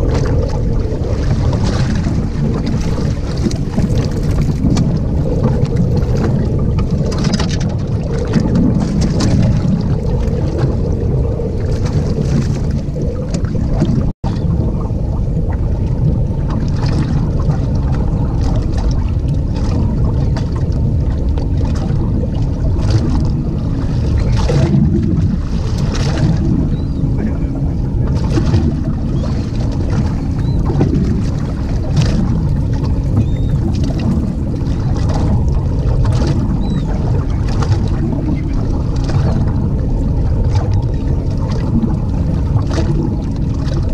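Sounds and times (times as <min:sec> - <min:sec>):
water splashing against boat hull: 0:00.0 - 0:43.9
wind buffeting microphone: 0:00.0 - 0:43.9.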